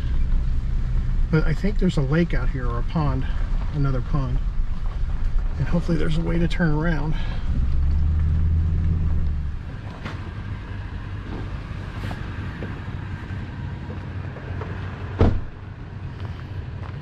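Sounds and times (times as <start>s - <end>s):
pickup engine humming: 0.0s - 17.0s.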